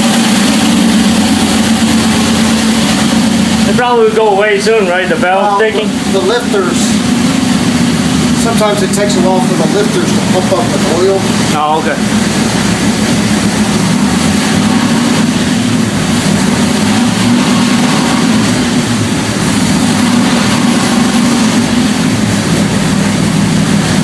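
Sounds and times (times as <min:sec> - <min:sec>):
engine running on dyno: 0:00.0 - 0:24.0.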